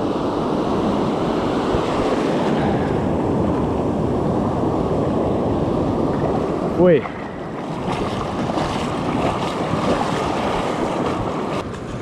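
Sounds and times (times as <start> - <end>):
ocean surf on beach: 0.0 - 12.0
wind on microphone: 0.0 - 12.0.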